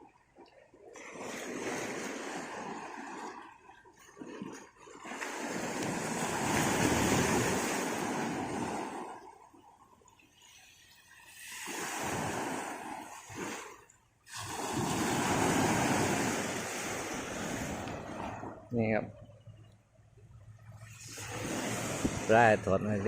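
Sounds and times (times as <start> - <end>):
sea waves washing onto shore: 0.9 - 18.9, 20.7 - 23.0.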